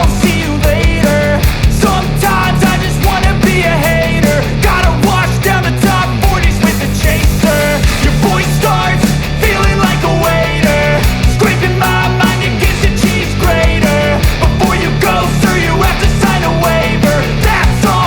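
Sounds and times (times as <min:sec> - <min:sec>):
rock music with drum beat: 0:00.0 - 0:18.0.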